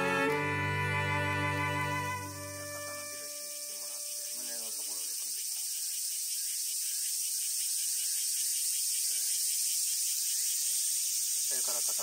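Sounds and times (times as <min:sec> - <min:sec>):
high-pitched hiss: 0:01.6 - 0:12.0.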